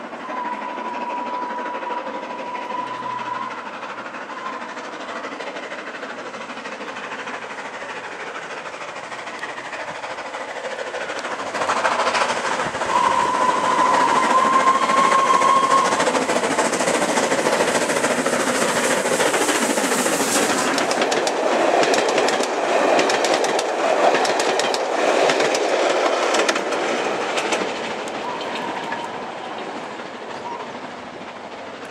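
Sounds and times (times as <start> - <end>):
steam train passing: 0.0 - 31.9
wheels clattering over rail joints: 5.8 - 31.9.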